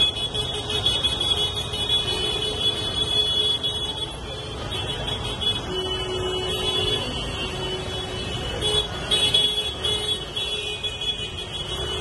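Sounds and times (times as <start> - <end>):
busy street traffic: 0.0 - 12.0
vehicle horn: 0.0 - 12.0.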